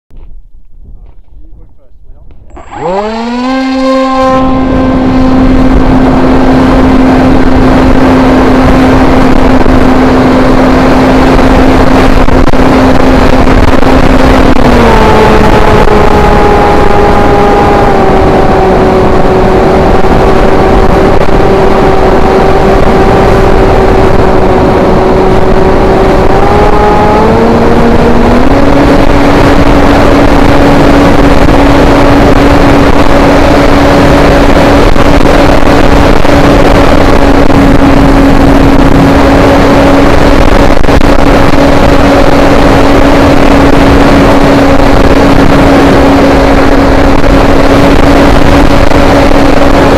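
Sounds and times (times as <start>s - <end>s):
heavy wind rush: 0.8s - 49.9s
electric motor and propeller whining: 2.2s - 49.9s.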